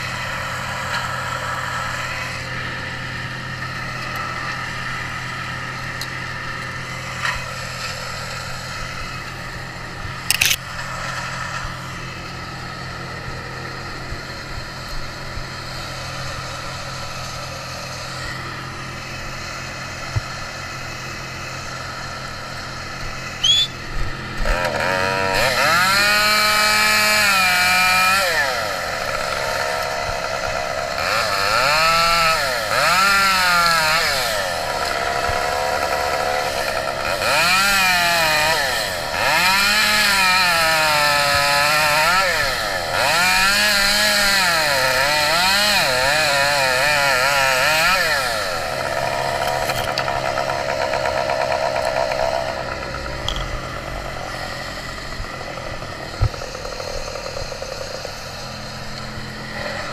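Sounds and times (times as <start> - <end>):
chainsaw revving: 0.0 - 59.9
steady engine hum: 0.0 - 59.9.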